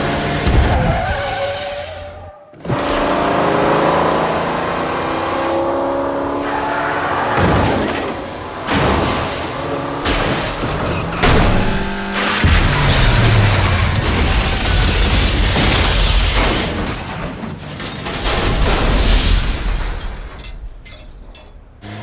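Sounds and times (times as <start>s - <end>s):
car engine noise: 0.0s - 19.1s, 20.4s - 22.0s.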